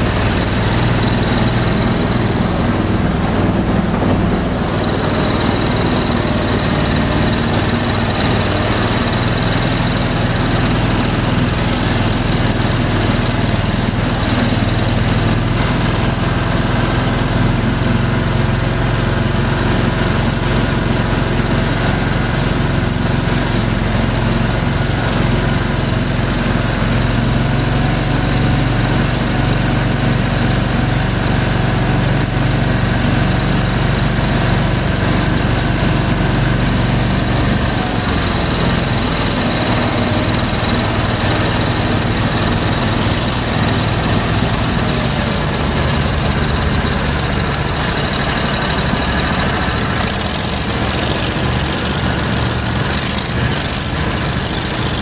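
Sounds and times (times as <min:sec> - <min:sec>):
amphibious vehicle engine running: 0:00.0 - 0:55.0.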